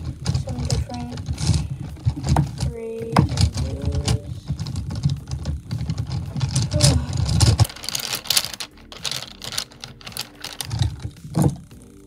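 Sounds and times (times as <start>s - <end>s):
low handling rumble: 0.0s - 12.0s
wooden pencils clattering: 0.0s - 12.0s.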